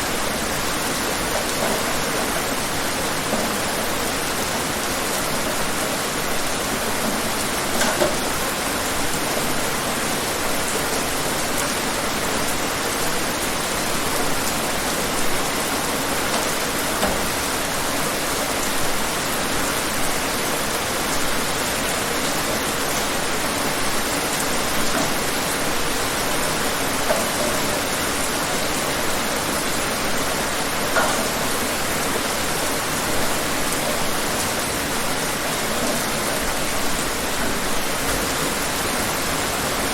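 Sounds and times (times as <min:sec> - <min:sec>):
individual raindrops: 0:00.0 - 0:39.9
steady rain falling: 0:00.0 - 0:39.9.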